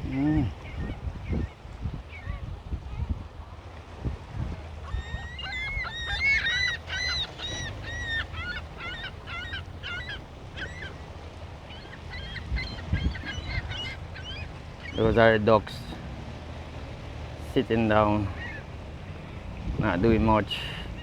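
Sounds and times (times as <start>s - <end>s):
low wind rumble on microphone: 0.0s - 21.0s
water birds calling: 0.0s - 21.0s.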